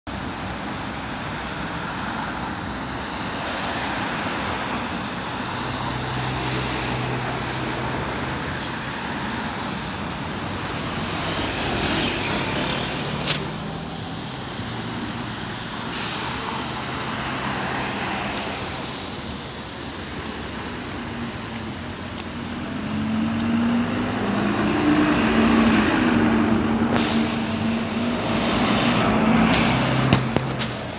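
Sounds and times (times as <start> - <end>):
road traffic passing: 0.0 - 30.9
bus engine hum: 0.1 - 30.9.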